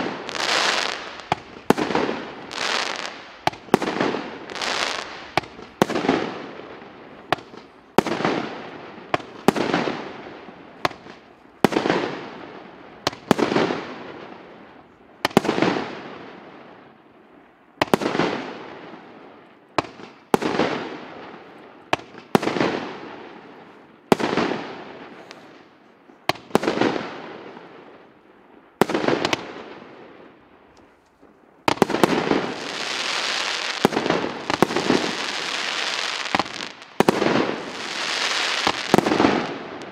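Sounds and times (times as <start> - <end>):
fireworks bangs: 0.0 - 16.8, 17.8 - 28.1, 28.7 - 39.9.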